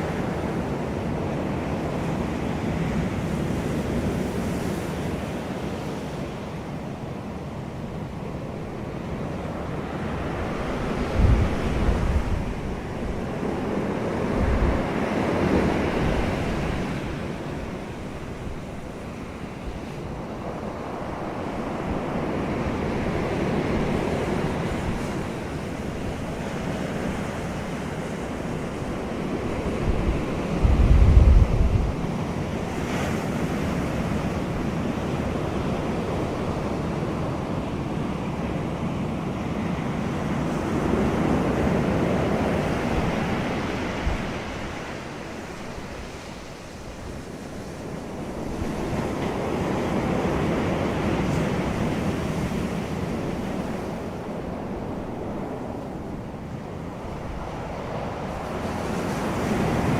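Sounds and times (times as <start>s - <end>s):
ocean waves washing in: 0.0s - 59.9s.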